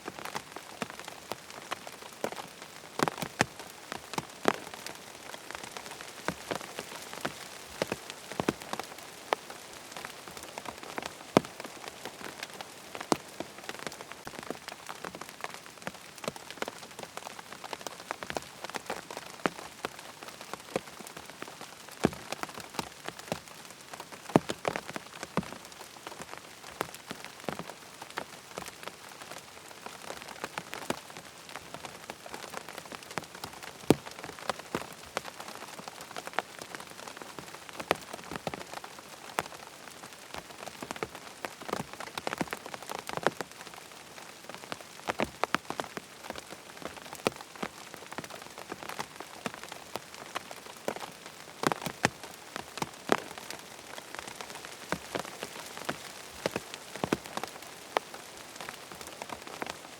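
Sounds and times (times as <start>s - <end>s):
rain pattering on tent fabric: 0.0s - 59.9s.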